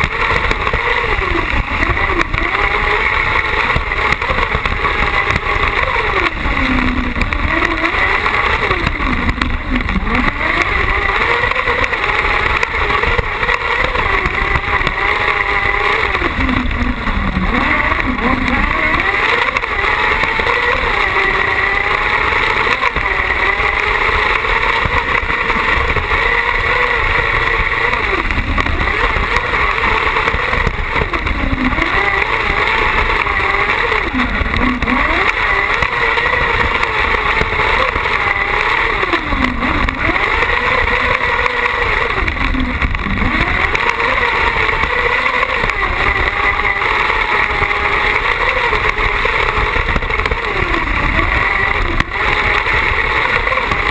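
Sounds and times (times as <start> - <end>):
buggy engine at high revs: 0.0 - 53.9.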